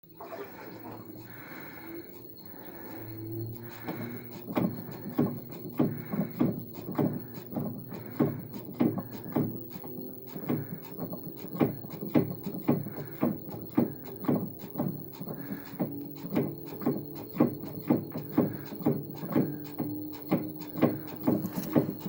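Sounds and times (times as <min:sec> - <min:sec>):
low hum: 0:00.0 - 0:22.0
washing machine knocking: 0:03.7 - 0:22.0.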